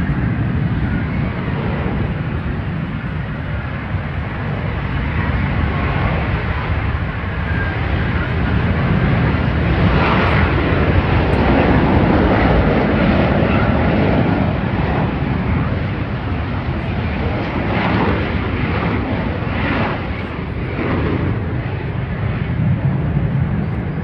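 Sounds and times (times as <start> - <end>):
military aircraft flying past: 0.0 - 24.0.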